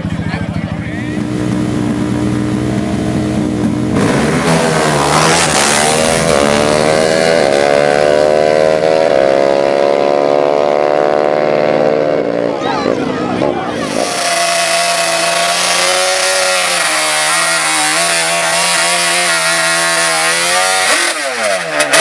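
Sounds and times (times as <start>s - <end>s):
atv engines revving: 0.0s - 22.0s.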